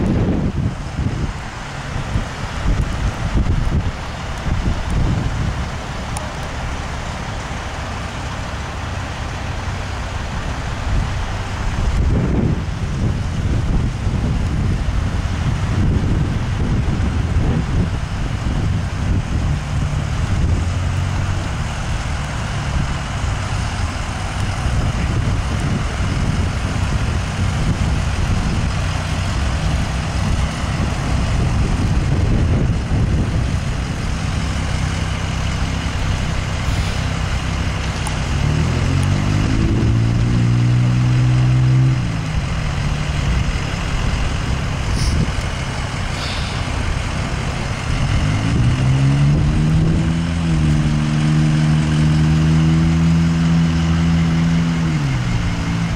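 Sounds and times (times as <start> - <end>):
fire engine idling and revving: 0.0 - 55.9.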